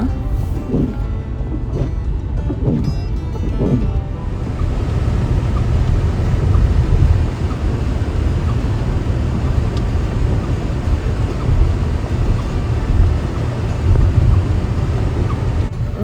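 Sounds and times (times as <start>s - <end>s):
car tyre and wind noise: 0.0s - 16.0s.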